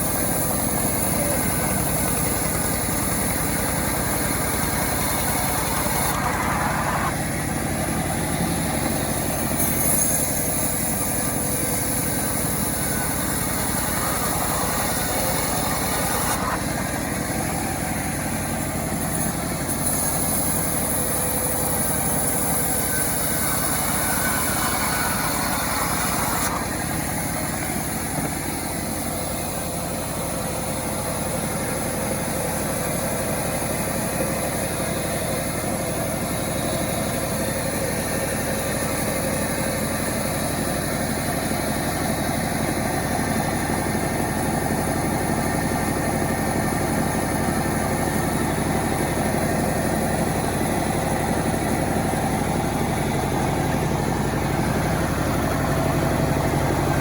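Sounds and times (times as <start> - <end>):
chainsaw engine running: 0.0 - 57.0.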